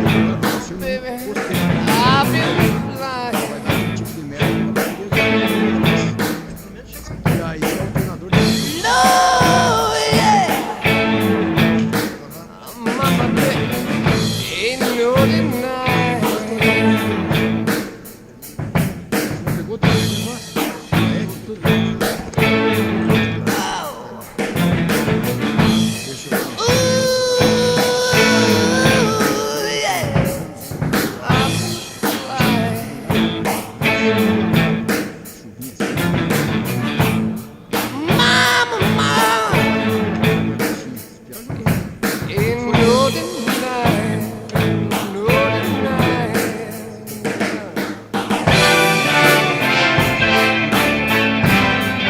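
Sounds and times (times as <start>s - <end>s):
rock music: 0.0s - 52.0s.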